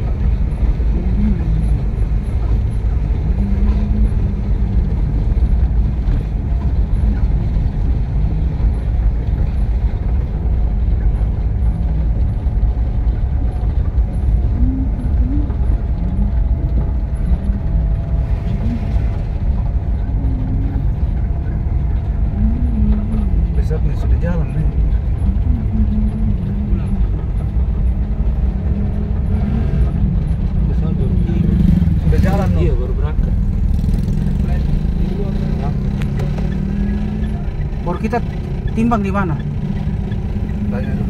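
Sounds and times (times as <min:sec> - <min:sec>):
engine and tyre rumble in cab: 0:00.0 - 0:41.0.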